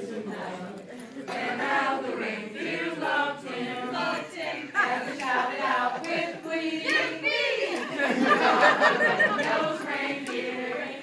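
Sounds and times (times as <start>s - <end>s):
group singing a carol unaccompanied: 0.0s - 11.0s.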